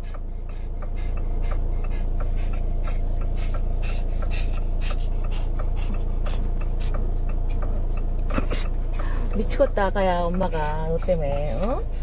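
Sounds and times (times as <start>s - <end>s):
car cabin rumble: 0.0s - 12.0s
dog panting fast: 0.0s - 12.0s.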